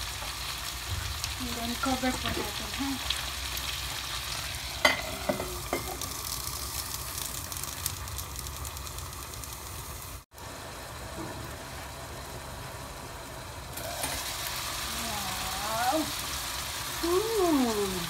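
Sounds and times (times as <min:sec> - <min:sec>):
shrimp sizzling in a pan: 0:00.0 - 0:18.0.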